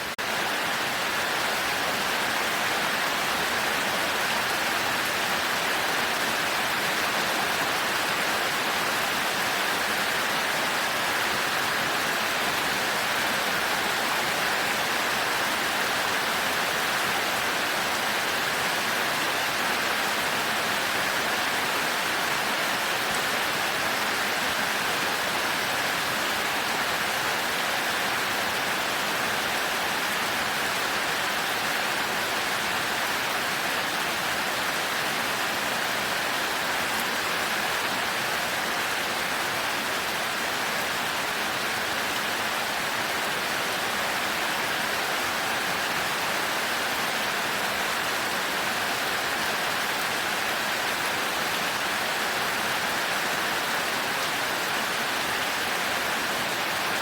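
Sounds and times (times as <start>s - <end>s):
heavy rain on thatched roof: 0.0s - 57.0s.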